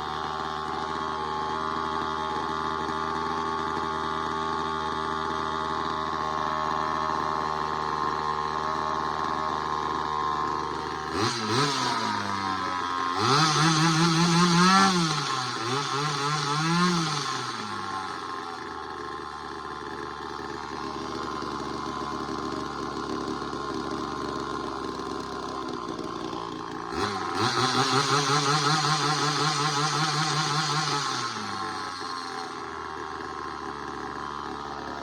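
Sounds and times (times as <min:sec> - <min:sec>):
chainsaw engine idling and revving: 0:00.0 - 0:35.0.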